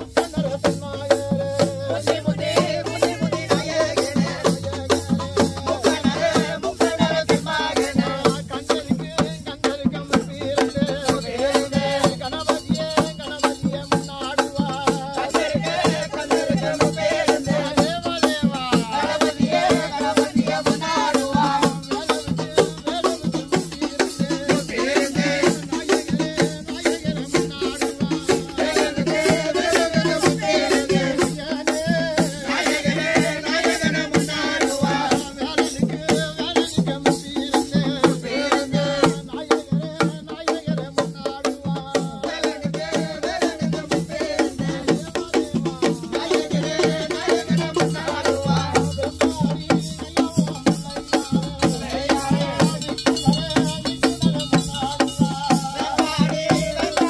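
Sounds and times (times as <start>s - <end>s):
shaken percussion beat: 0.0s - 57.0s.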